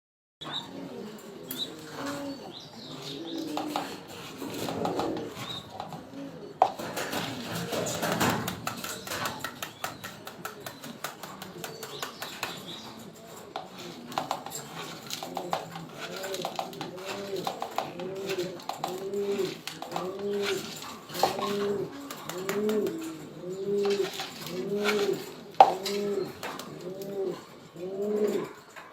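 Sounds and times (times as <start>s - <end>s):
pigeons cooing: 0.4s - 28.9s.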